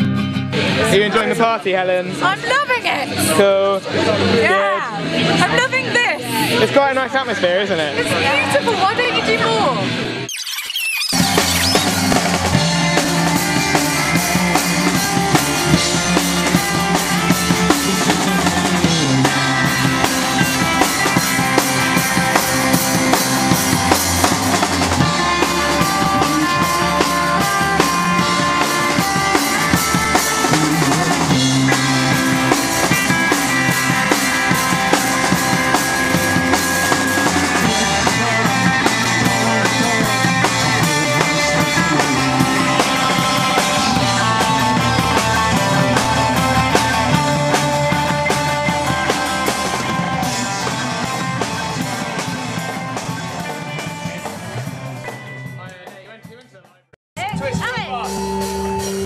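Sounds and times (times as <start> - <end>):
instrumental band music: 0.0 - 59.0
drum kit beat: 11.1 - 59.0.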